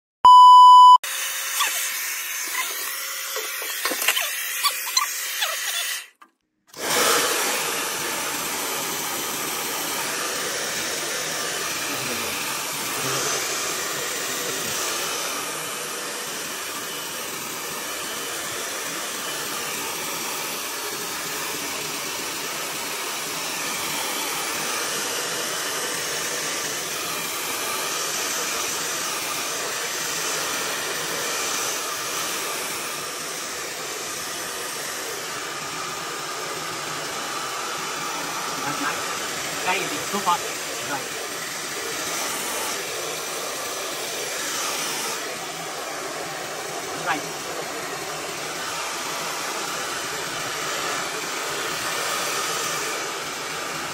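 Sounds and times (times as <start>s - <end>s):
hair dryer running: 1.0s - 53.9s.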